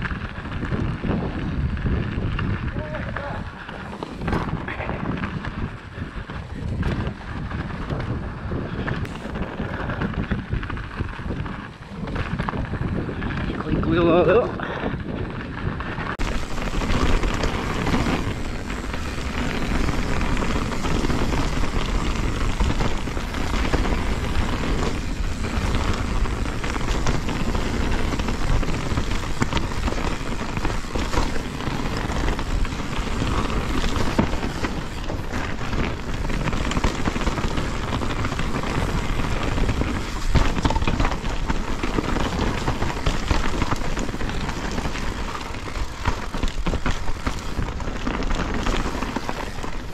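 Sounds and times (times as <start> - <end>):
bike rattling and knocking: 0.0 - 49.9
tyre and wind noise: 0.0 - 49.9.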